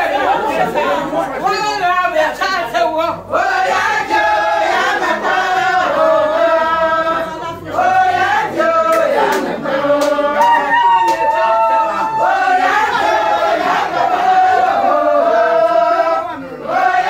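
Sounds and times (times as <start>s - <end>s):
crowd singing a chant: 3.1s - 17.0s.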